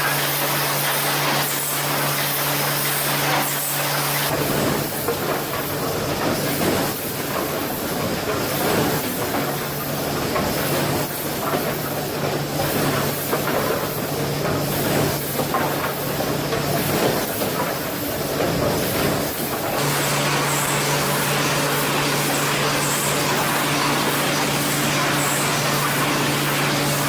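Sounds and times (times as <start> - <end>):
wood-processing machinery clatter: 0.0 - 27.0.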